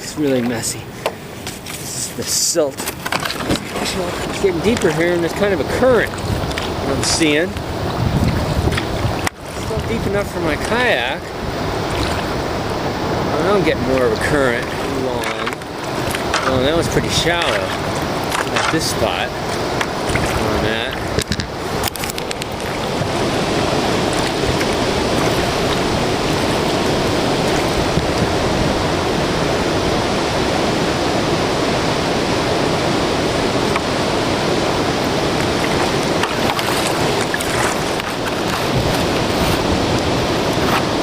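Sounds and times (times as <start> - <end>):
meltwater rushing: 0.0 - 41.0.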